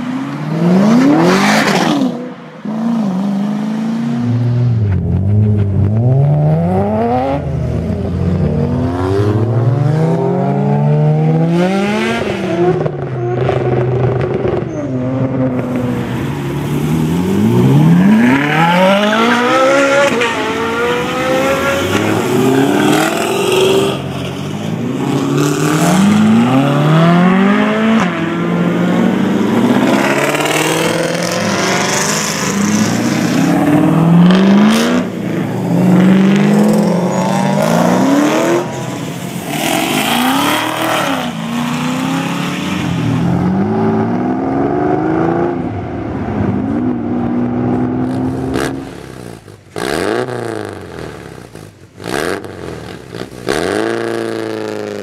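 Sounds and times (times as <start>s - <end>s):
cars accelerating hard: 0.0s - 55.0s.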